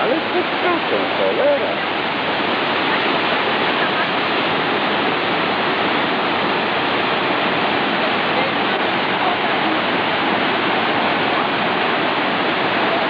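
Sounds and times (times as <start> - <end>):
waterfall rushing over boulders: 0.0 - 13.0.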